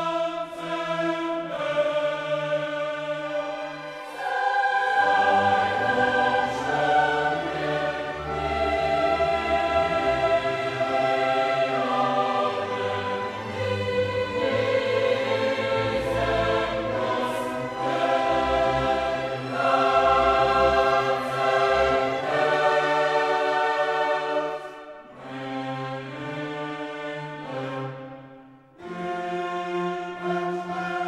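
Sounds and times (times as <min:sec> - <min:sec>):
choral and orchestral music: 0:00.0 - 0:31.0.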